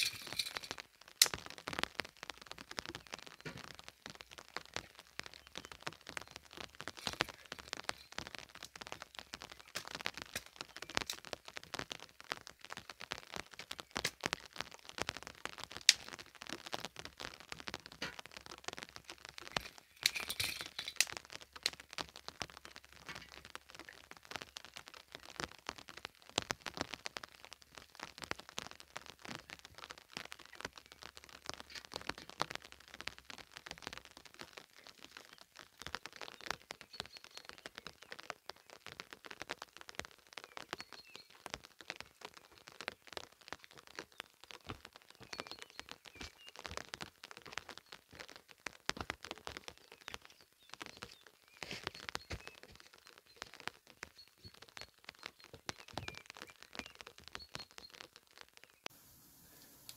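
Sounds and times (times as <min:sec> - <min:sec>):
firewood popping: 0:00.0 - 0:59.9
wood fire crackling: 0:00.0 - 0:59.9.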